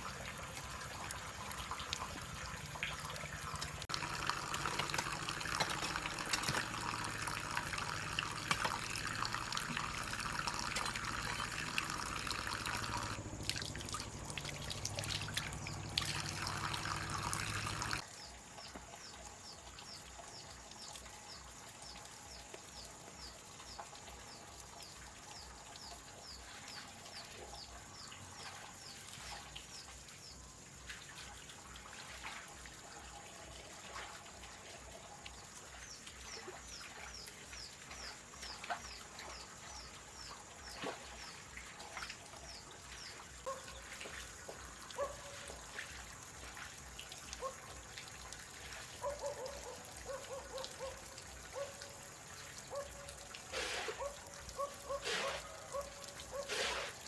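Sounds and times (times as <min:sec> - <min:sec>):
water splashing from bamboo pipe: 0:00.0 - 0:18.1, 0:25.8 - 0:57.0
water trickling: 0:00.0 - 0:57.0.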